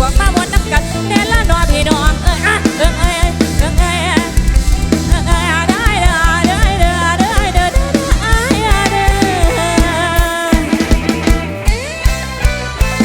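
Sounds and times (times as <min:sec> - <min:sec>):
live band pop music: 0:00.0 - 0:13.0
steady drum beat: 0:00.0 - 0:13.0.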